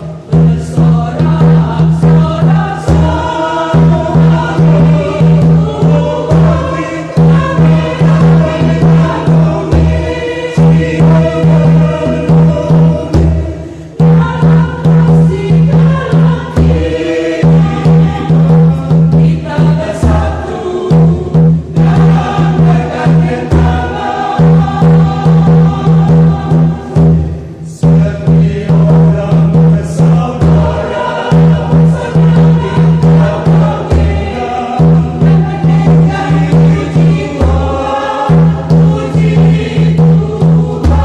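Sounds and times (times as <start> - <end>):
choir singing a hymn: 0.0 - 41.0
hand drum beating: 0.2 - 41.0.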